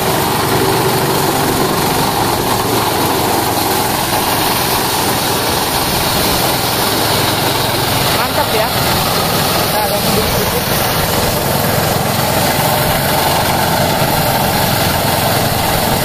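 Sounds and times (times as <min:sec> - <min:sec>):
rice thresher running: 0:00.0 - 0:16.0.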